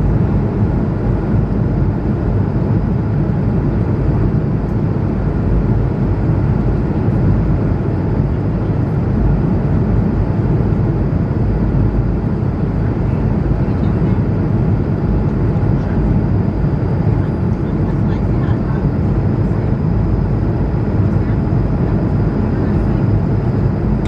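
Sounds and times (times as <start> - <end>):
airliner cabin engine noise: 0.0 - 24.0.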